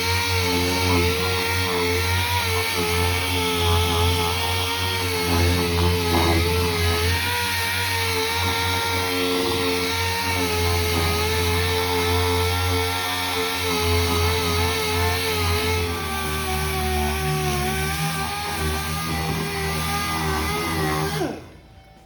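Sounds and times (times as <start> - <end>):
angle grinder grinding steel: 0.0 - 21.6.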